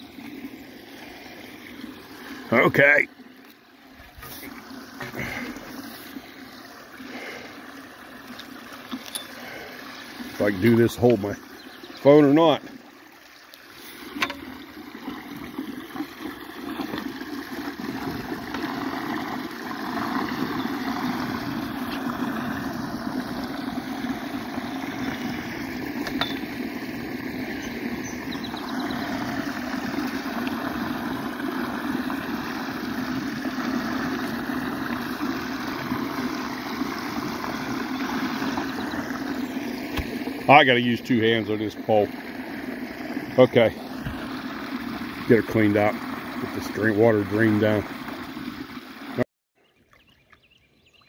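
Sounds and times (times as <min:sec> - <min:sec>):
water rushing down a drain pipe: 0:00.0 - 0:49.3.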